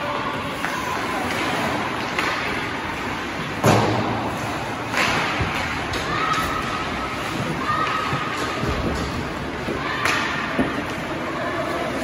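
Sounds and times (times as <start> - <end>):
ice rink noise: 0.0 - 12.0.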